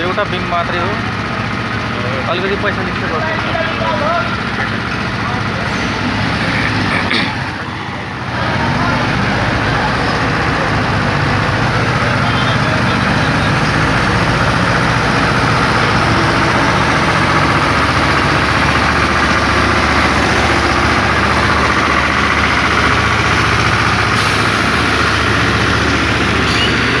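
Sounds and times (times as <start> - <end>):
heavy machinery engine idling: 0.0 - 27.0.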